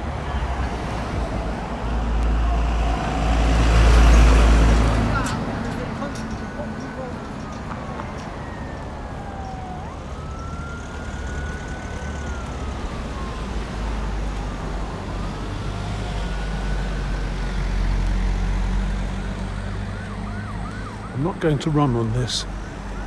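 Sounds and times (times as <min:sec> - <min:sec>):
road traffic rumble: 0:00.0 - 0:23.0
emergency siren wailing: 0:00.1 - 0:23.0.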